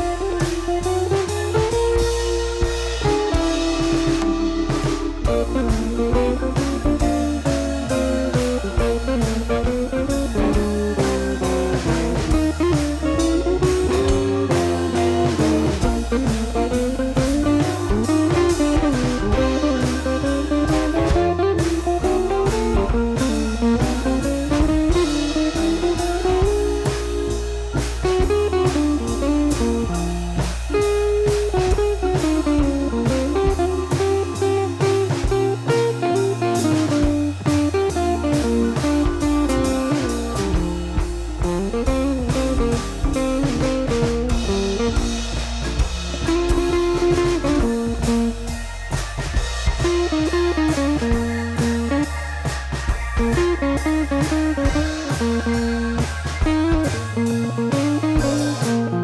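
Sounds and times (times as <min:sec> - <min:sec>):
guitar-led instrumental music: 0:00.0 - 0:59.0.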